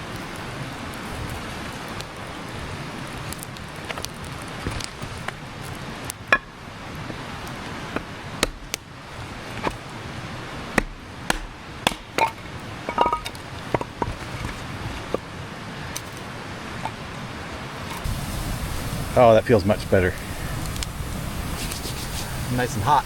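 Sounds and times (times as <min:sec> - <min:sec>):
campfire crackling: 0:00.0 - 0:23.0
fire pops and snaps: 0:00.1 - 0:09.9, 0:10.6 - 0:15.3, 0:15.9 - 0:17.0, 0:17.8 - 0:23.0.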